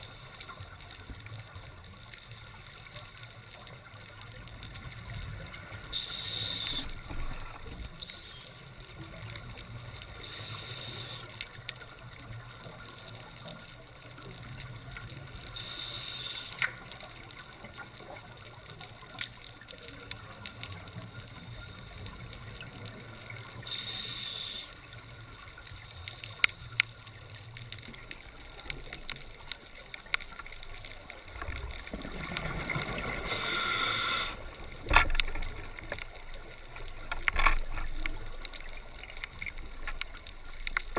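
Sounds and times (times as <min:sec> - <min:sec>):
underwater hum and hiss: 0:00.0 - 0:40.9.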